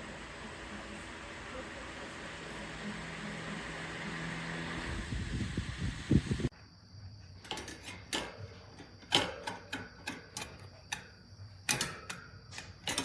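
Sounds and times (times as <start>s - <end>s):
electric fan airflow: 0.0s - 13.0s.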